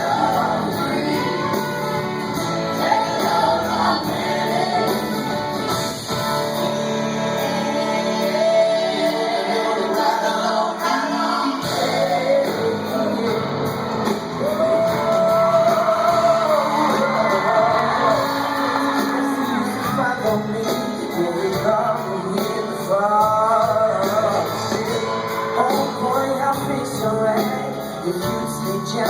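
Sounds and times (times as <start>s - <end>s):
live rock band with singing: 0.0s - 29.0s.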